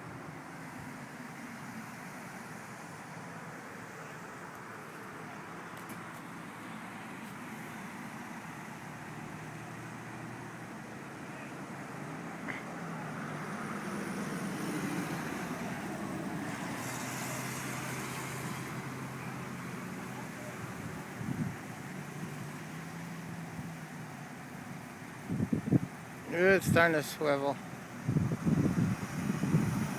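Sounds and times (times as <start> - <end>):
large vehicle engine running: 0.2 - 29.9.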